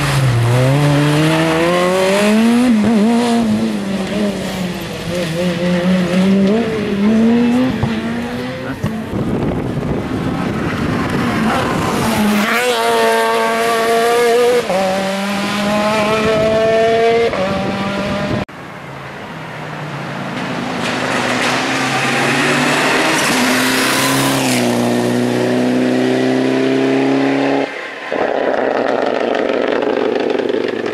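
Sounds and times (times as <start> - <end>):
rally car engines revving: 0.0 - 18.5, 20.1 - 30.9.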